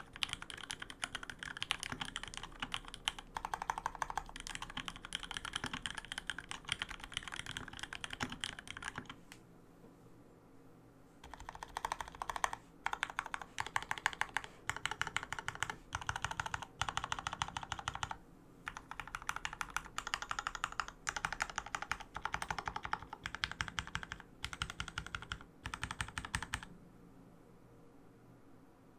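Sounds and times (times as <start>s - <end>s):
mechanical keyboard typing: 0.0s - 9.2s, 11.2s - 26.7s.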